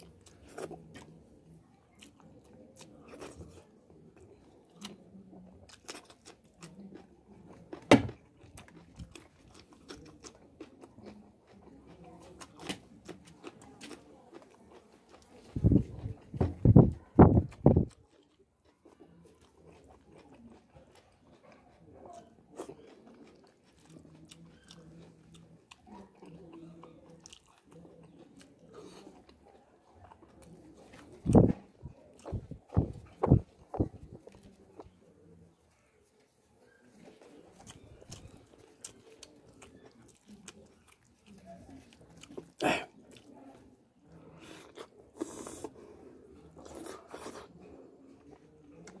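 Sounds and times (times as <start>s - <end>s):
close-up chewing: 0.0s - 49.0s.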